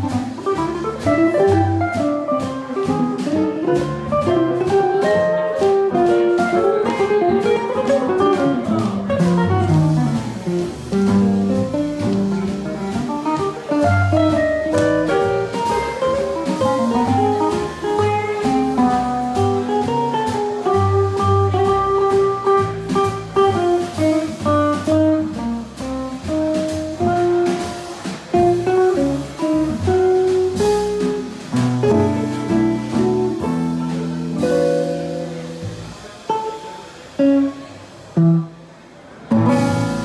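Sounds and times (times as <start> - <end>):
light drums: 0.0 - 38.4, 39.3 - 40.0
electric guitar melody: 0.0 - 38.6, 39.3 - 40.0
upright bass: 0.0 - 38.6, 39.2 - 40.0.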